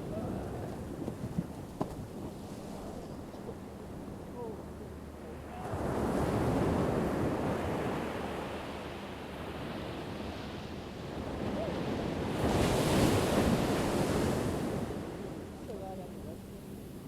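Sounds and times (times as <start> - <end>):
ocean waves breaking: 0.0 - 16.0.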